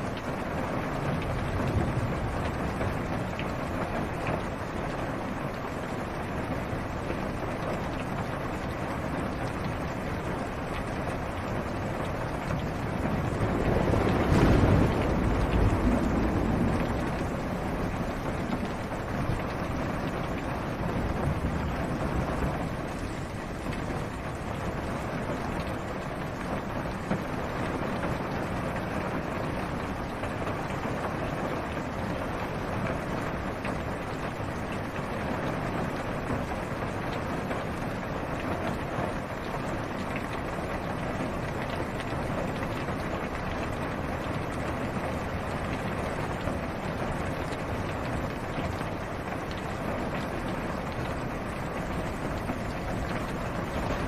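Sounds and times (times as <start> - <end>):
rain on car roof: 0.0 - 54.0.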